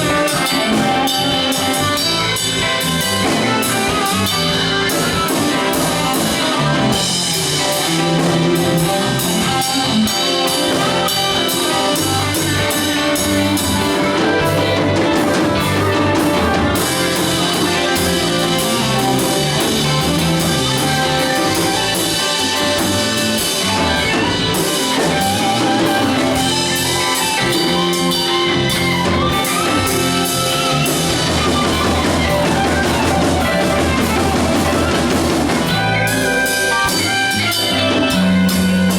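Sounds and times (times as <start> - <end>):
band jamming with drums and guitar: 0.0 - 38.9.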